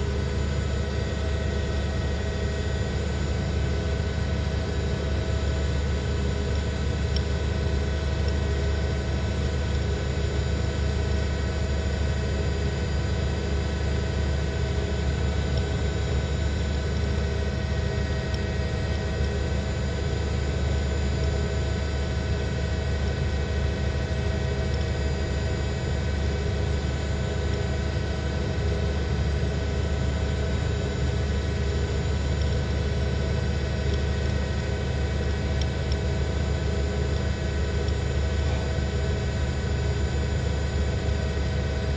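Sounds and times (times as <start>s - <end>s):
helicopter cabin drone: 0.0s - 41.9s.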